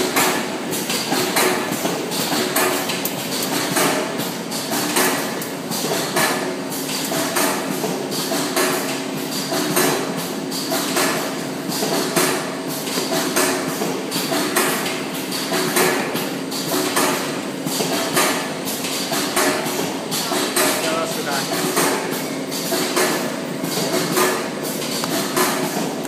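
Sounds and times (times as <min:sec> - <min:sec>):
machine clacking: 0:00.0 - 0:26.0.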